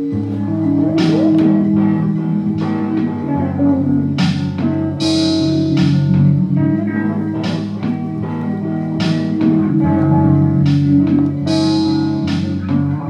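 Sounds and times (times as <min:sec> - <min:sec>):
guitar band music: 0:00.0 - 0:13.0.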